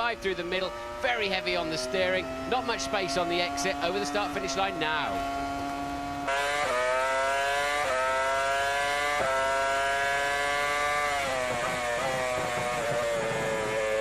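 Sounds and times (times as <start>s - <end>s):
racing car engine revving: 0.0s - 14.0s.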